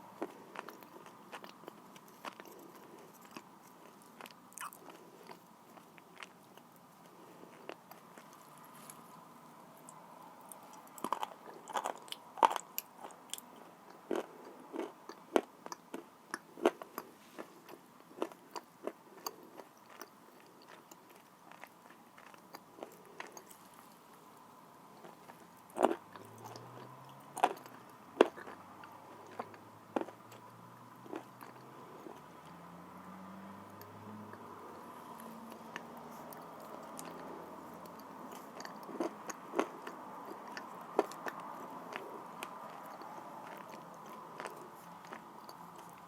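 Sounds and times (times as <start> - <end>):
clay crunching being chewed: 0.1 - 9.2, 9.8 - 24.3, 25.0 - 46.0.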